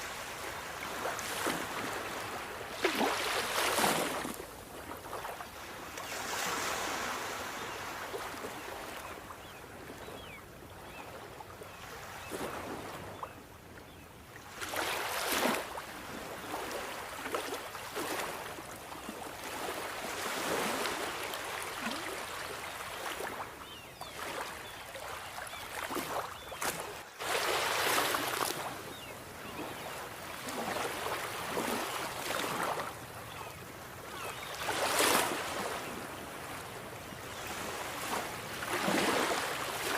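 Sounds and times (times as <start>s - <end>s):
sea waves breaking on shore: 0.0s - 10.3s, 14.3s - 39.9s.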